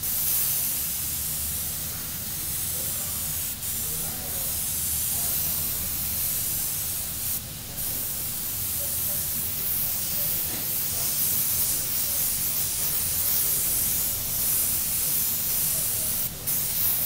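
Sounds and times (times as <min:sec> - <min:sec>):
airbrush spraying with a hiss: 0:00.0 - 0:17.0.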